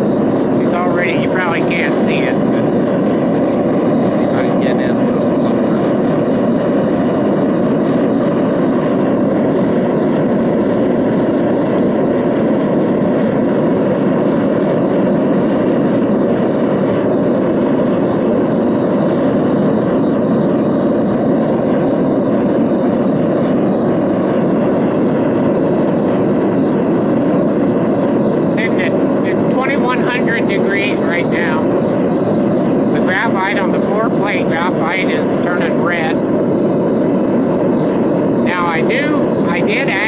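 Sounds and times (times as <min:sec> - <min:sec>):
gas burner flame roaring: 0:00.0 - 0:40.0.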